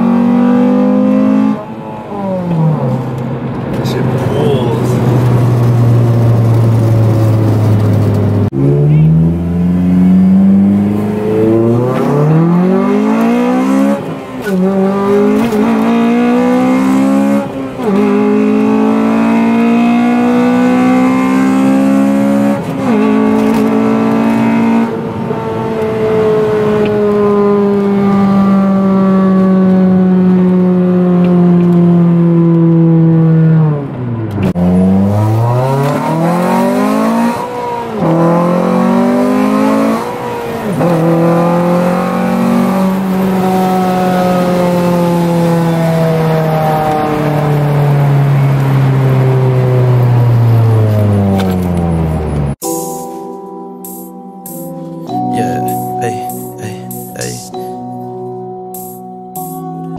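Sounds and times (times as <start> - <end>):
car engine revving through gears: 0.0 - 52.6.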